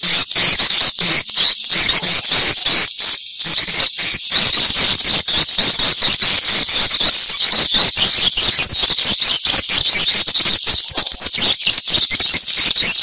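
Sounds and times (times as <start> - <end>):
swiftlets twittering: 0.0 - 13.0.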